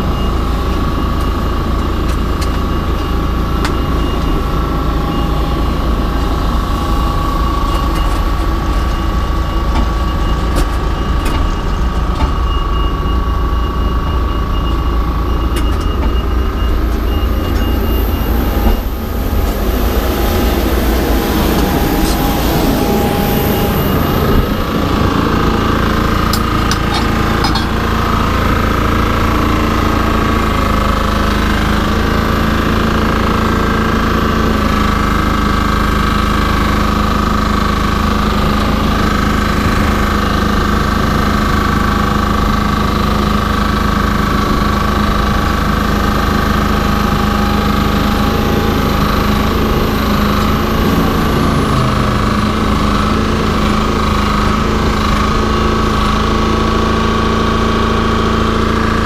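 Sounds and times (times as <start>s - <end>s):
high machinery whine: 0.0s - 59.0s
low engine hum: 0.0s - 59.0s.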